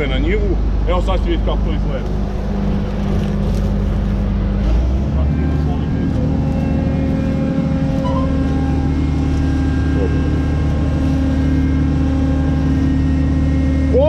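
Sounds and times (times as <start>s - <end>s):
combine harvester engine running: 0.0s - 14.0s.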